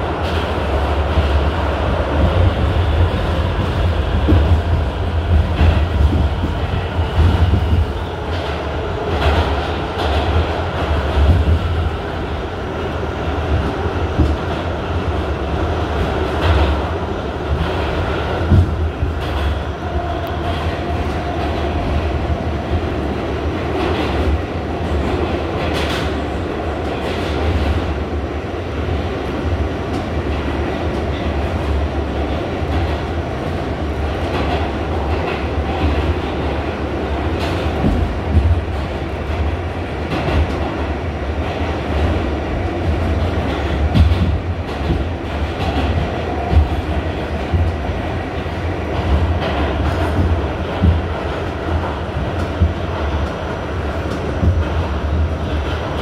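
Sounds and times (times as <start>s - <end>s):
subway wheels rumbling on rail: 0.0s - 56.0s.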